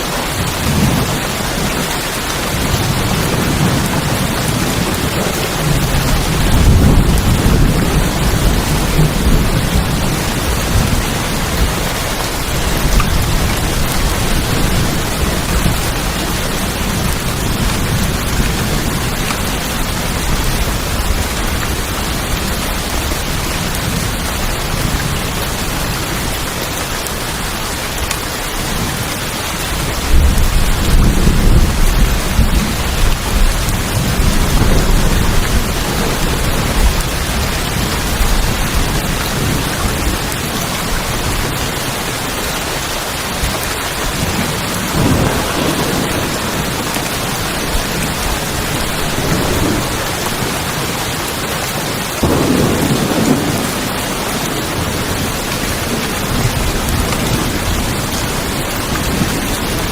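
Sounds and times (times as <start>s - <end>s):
rain on a tin roof: 0.0s - 59.9s
low rolling thunder: 0.4s - 26.2s, 29.7s - 41.8s, 44.0s - 51.0s, 52.2s - 59.9s.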